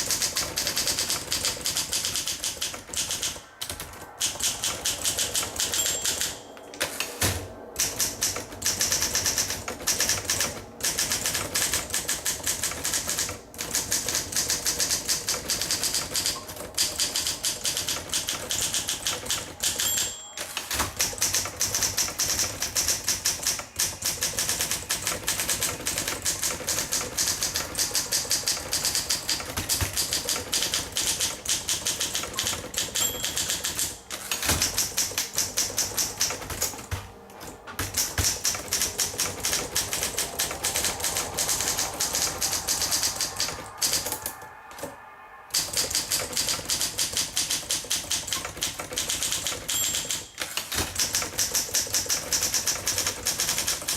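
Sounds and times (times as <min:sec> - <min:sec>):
manual typewriter typing: 0:00.0 - 0:44.9, 0:45.6 - 0:53.9
typewriter bell ping: 0:02.7 - 0:13.3, 0:15.5 - 0:44.3, 0:45.6 - 0:52.0.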